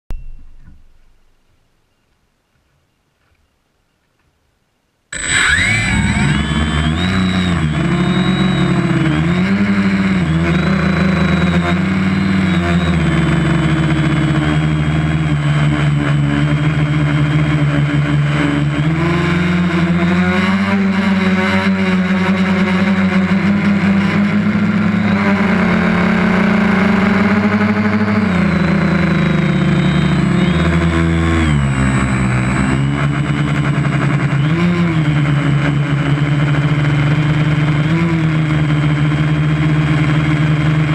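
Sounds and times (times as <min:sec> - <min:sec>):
steady high whine: 0:05.1 - 0:40.9
quadcopter propellers buzzing: 0:05.2 - 0:40.9.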